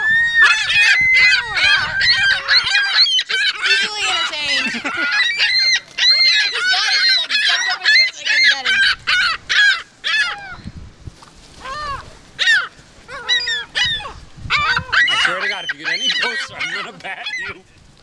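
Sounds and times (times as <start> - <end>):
gulls squawking: 0.0 - 10.7, 11.6 - 17.7.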